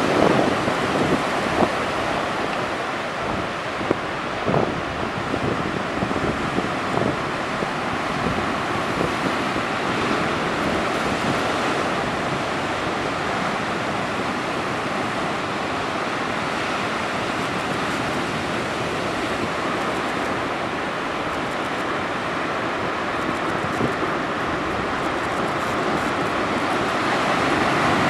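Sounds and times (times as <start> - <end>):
waves washing ashore: 0.0 - 28.0.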